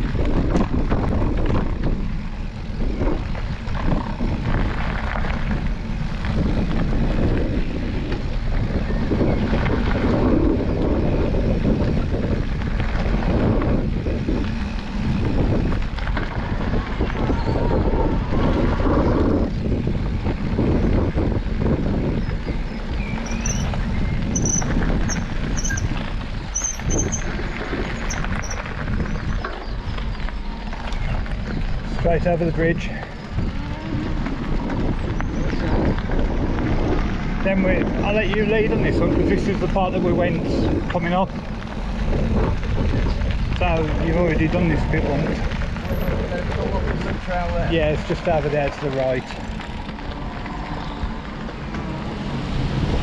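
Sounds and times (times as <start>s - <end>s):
bike rattling: 0.0s - 53.0s
tyres crunching over gravel: 0.0s - 53.0s
wind rushing over microphone: 0.0s - 53.0s.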